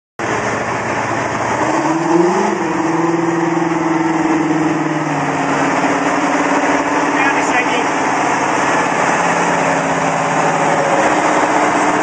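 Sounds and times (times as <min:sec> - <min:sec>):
diesel engine running: 0:00.2 - 0:12.0.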